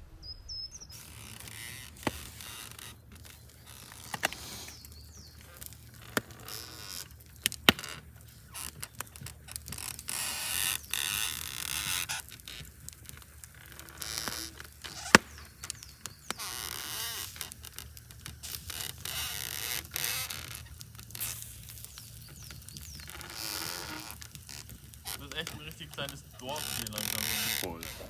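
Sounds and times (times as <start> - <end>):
rustling: 0.0 - 28.0.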